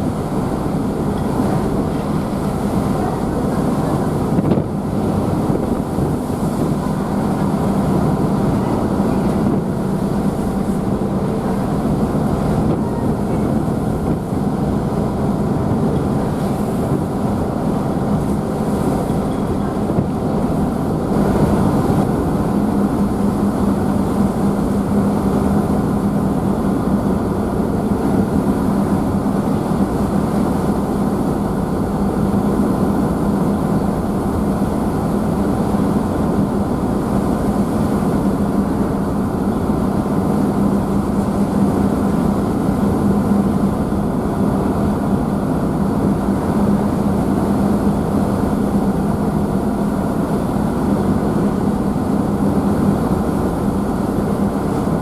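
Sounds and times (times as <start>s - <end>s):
rushing wake and spray: 0.0s - 55.0s
ship engines humming: 0.0s - 55.0s.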